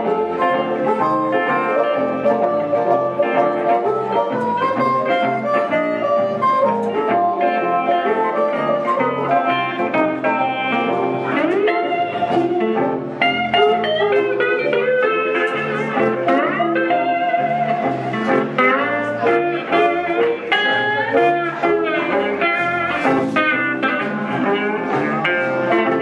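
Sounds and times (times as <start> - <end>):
acoustic guitar: 0.0 - 26.0
electric bass line: 0.0 - 26.0
electric guitar lead: 0.0 - 26.0
harmonica: 0.0 - 26.0.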